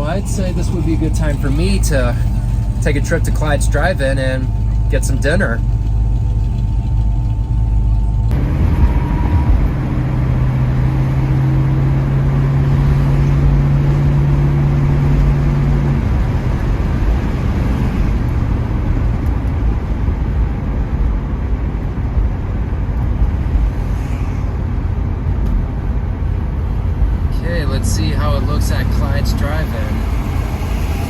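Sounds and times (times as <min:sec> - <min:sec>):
car engine drone: 0:00.0 - 0:31.0
road and wind noise: 0:00.0 - 0:31.0.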